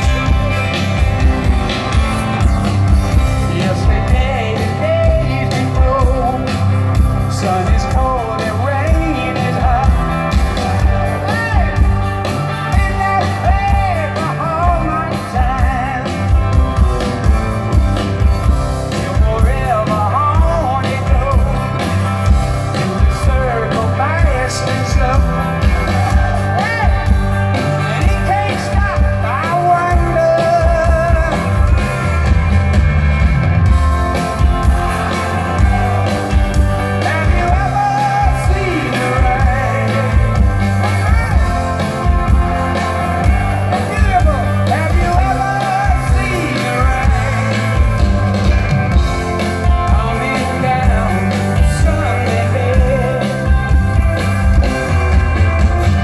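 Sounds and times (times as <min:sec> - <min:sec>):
live rock band through pa: 0:00.0 - 0:56.0.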